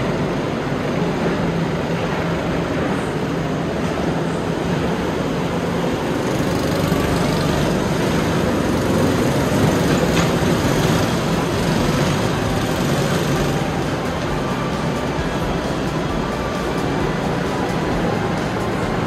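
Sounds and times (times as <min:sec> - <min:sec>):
go-kart engines droning: 0:00.0 - 0:19.0.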